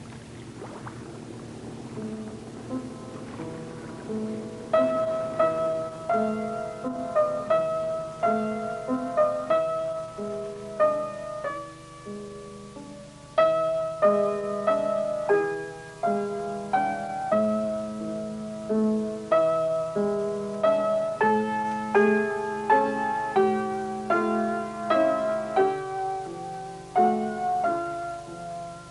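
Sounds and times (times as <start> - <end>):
slow piano music: 0.0 - 28.9.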